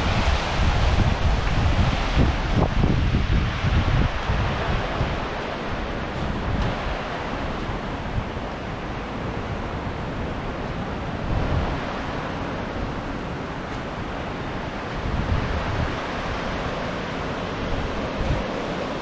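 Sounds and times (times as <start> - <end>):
waves washing onto beach: 0.0 - 19.0
wind buffeting microphone: 0.0 - 19.0.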